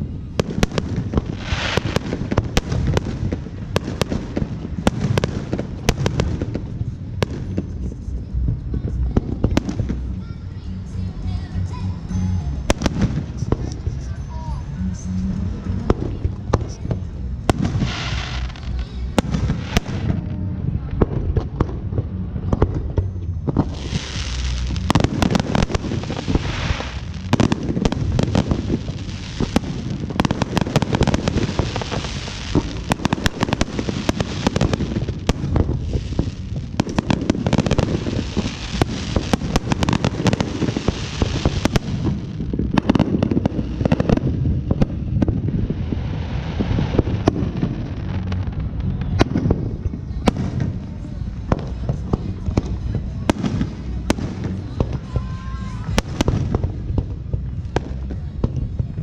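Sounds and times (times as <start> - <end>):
fireworks crackling and popping: 0.0 - 59.0
rumble of fireworks booms: 0.0 - 59.0.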